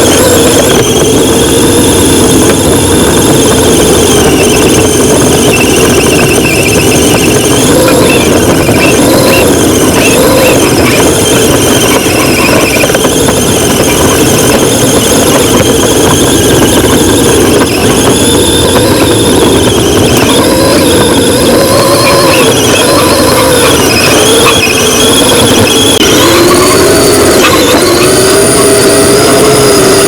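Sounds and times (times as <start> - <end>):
mechanical whine: 0.0 - 30.0.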